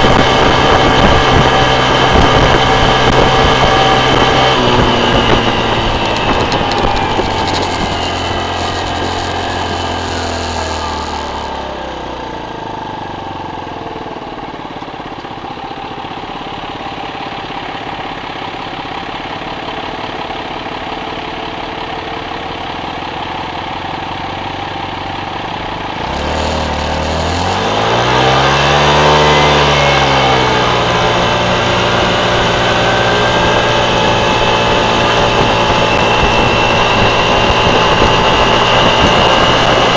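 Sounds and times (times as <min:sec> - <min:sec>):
motorcycle engine revving: 0:00.0 - 0:17.8, 0:23.8 - 0:39.9.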